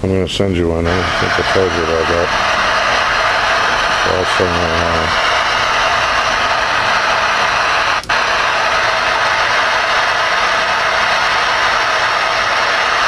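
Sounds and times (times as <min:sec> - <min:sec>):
radio static hiss: 0:00.8 - 0:13.0.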